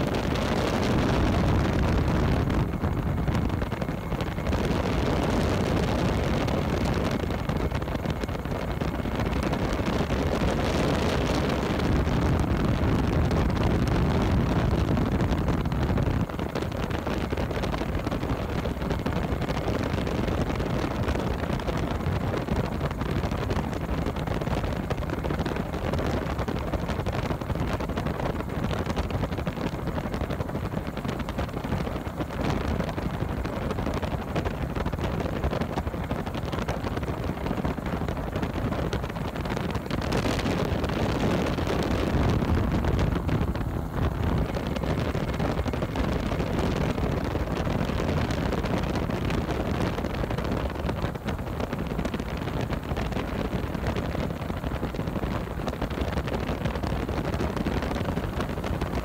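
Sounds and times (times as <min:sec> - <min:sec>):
gyrocopter engine and airflow: 0:00.0 - 0:59.0
wind buffeting microphone: 0:00.0 - 0:59.0.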